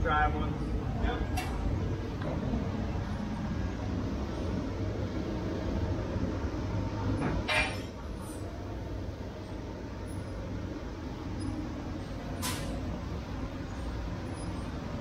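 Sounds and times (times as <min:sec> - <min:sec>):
low rumble of repair shop: 0:00.0 - 0:15.0.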